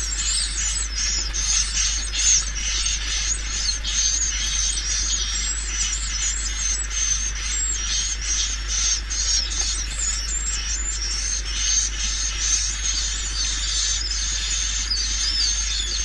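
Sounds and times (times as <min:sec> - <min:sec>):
steady low hum: 0:00.0 - 0:16.0
swiftlets twittering: 0:00.0 - 0:16.0.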